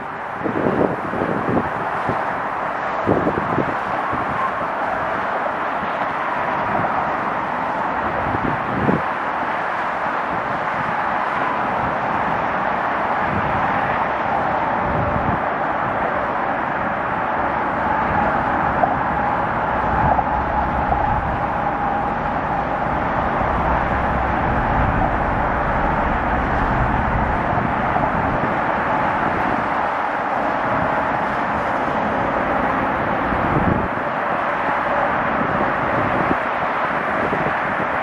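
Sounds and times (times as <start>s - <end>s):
outdoor background rumble: 5.8s - 38.0s.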